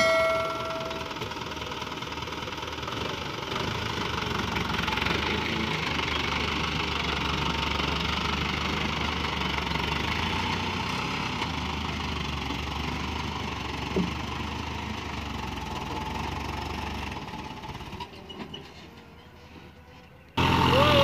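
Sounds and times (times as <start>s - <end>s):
diesel truck engine idling: 0.0s - 19.5s, 20.3s - 21.0s.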